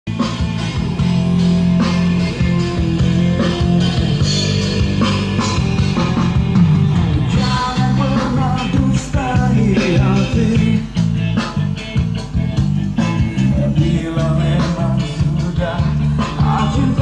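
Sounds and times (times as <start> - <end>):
rock song over loudspeakers: 0.1 - 17.0.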